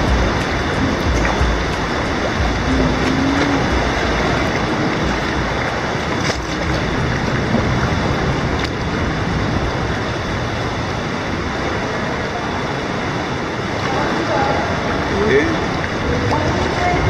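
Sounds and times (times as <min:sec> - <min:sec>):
kayak paddle splashes: 0:00.0 - 0:17.0
water rushing in sea cave: 0:00.0 - 0:17.0
waves booming: 0:00.0 - 0:17.0.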